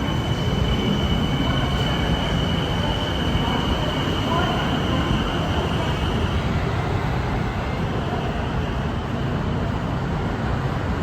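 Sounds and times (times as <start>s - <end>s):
train wheels squealing: 0.0s - 9.2s.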